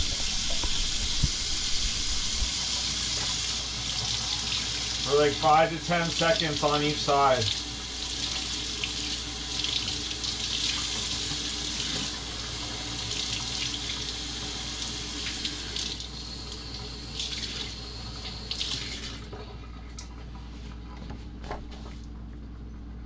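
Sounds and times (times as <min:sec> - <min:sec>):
faucet water splashing in sink: 0:00.0 - 0:19.3.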